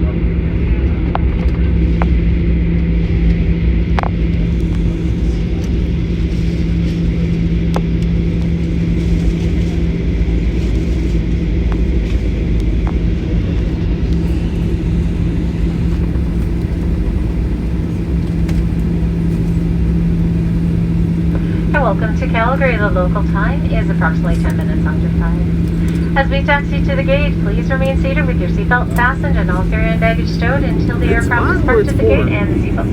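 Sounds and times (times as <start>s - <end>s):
airliner rumble on runway: 0.0s - 32.9s
constant hum: 0.0s - 32.9s.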